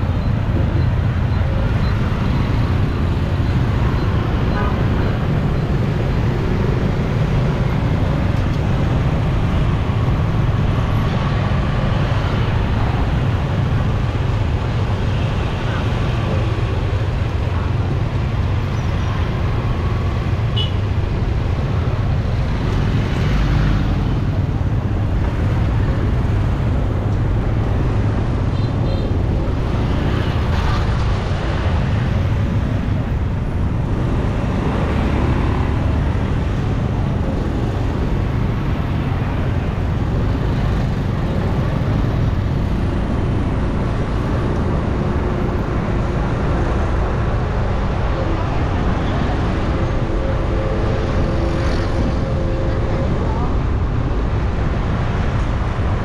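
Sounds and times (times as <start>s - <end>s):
low rumble of engines: 0.0s - 56.0s
vehicles passing close by: 0.0s - 56.0s.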